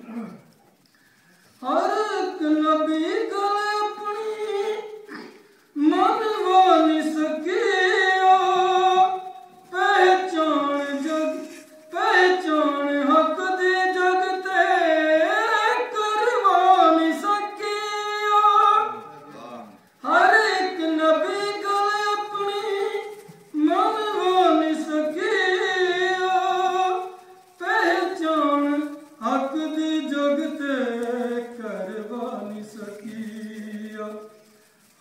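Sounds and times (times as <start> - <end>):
man singing unaccompanied: 1.6 - 5.1, 5.7 - 35.0.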